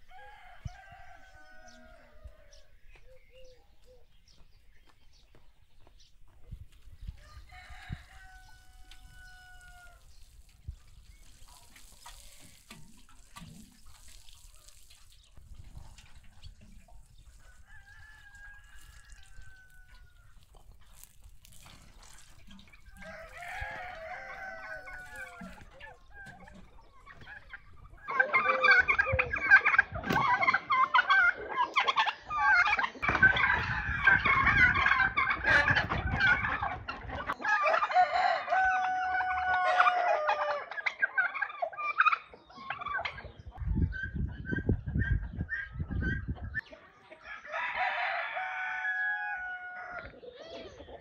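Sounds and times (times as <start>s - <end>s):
chickens clucking: 0.2s - 47.5s, 48.4s - 51.0s.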